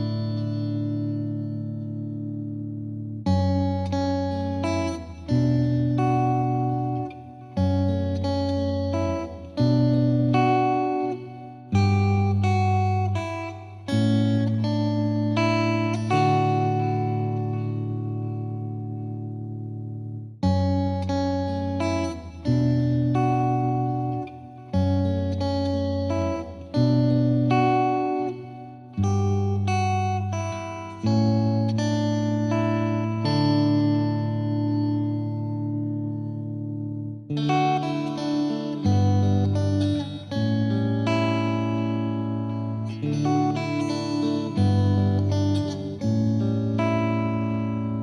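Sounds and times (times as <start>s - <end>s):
guitar chords ringing: 0.0s - 48.0s.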